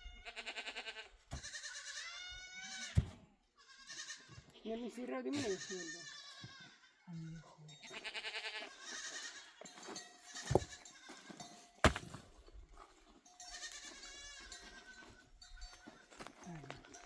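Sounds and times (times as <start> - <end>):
animals bleating: 0.0 - 11.5, 13.4 - 17.0.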